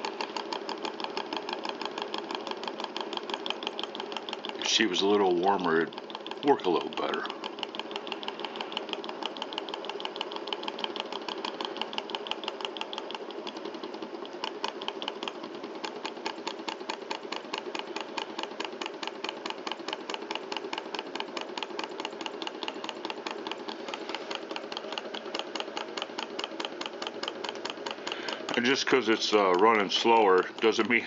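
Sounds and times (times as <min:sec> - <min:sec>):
small engine rapid ticking: 0:00.0 - 0:31.0.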